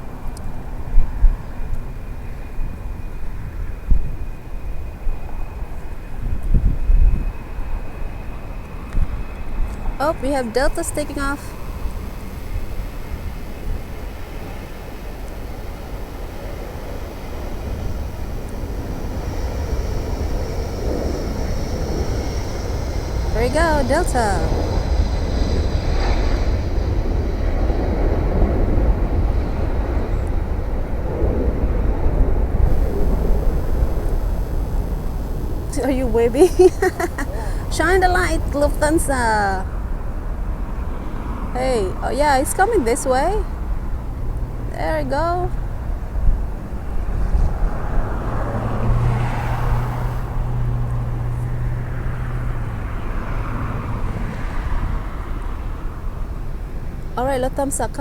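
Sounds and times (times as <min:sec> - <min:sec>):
jet engines rumbling: 0:07.0 - 0:57.8.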